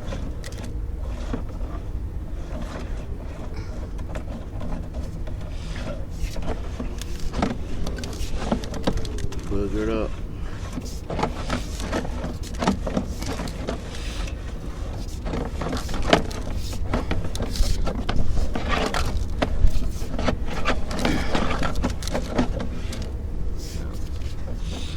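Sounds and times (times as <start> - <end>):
cable rattling in a drain pipe: 0.0 - 24.9
steady low hum: 0.0 - 24.9.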